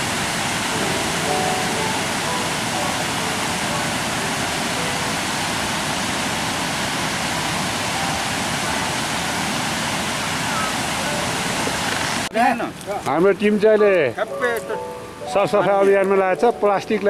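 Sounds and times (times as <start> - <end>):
mountain stream rushing over rocks: 0.0 - 14.1.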